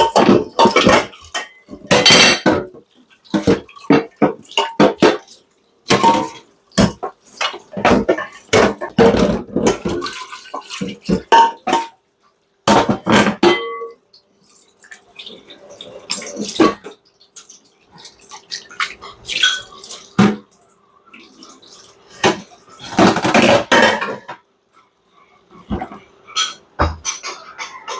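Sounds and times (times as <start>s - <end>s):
dishes and pots clattering: 0.0s - 12.0s, 12.6s - 14.2s, 15.1s - 20.6s, 21.3s - 24.9s, 25.5s - 27.9s
water splashing in sink: 0.0s - 12.0s, 12.6s - 24.2s.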